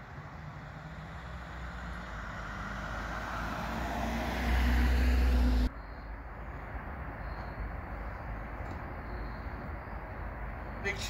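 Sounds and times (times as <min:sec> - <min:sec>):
outdoor background noise: 0:00.0 - 0:11.0
vehicle engine: 0:00.0 - 0:11.0.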